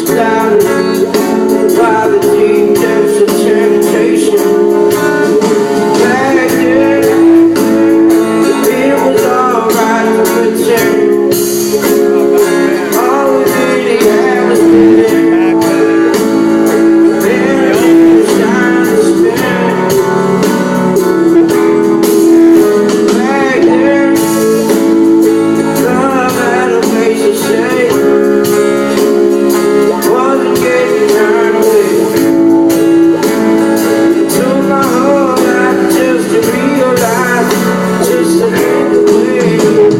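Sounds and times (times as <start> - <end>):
band playing with guitar: 0.0 - 39.9
man singing: 0.0 - 39.9.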